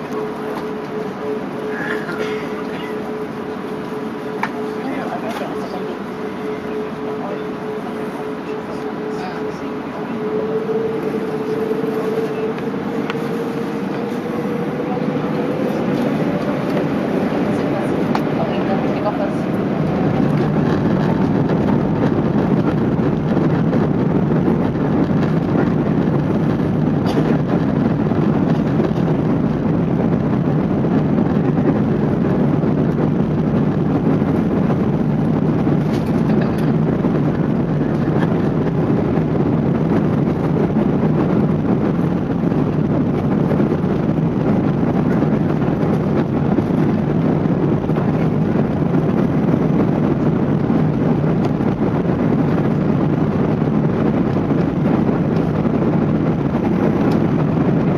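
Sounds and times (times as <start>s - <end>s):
airplane cabin engine rush: 0.0s - 57.9s.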